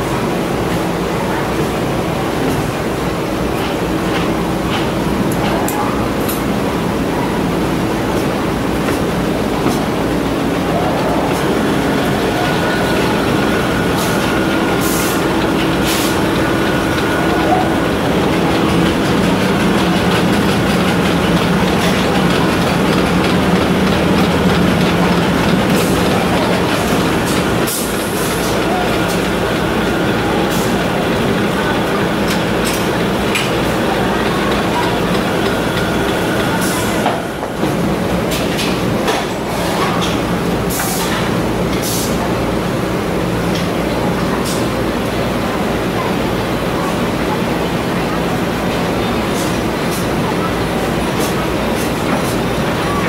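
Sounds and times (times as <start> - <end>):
machinery rumble and hum: 0.0 - 53.0.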